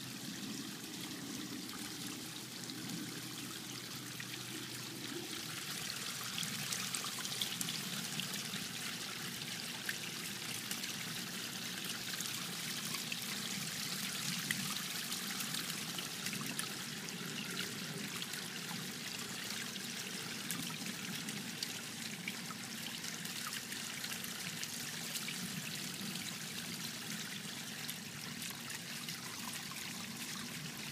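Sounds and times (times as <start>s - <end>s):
fountain water splashing: 0.0s - 30.9s.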